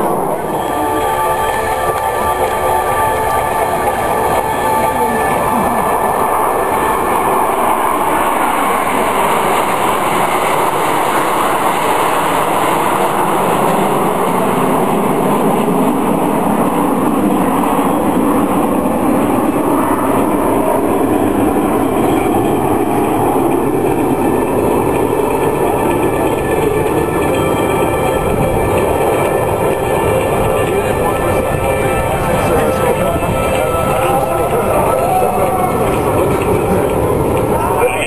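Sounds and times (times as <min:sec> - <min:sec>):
jets passing overhead: 0:00.0 - 0:38.0.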